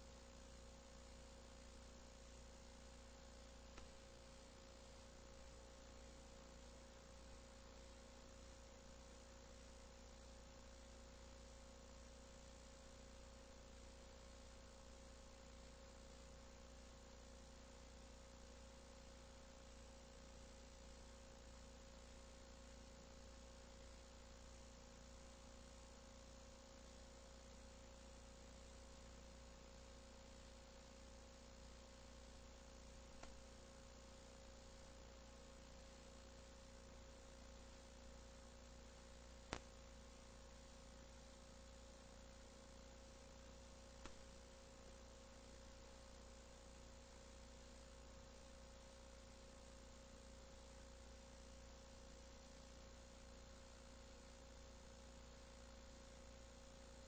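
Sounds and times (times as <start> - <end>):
electrical hum and hiss: 0.0 - 57.0.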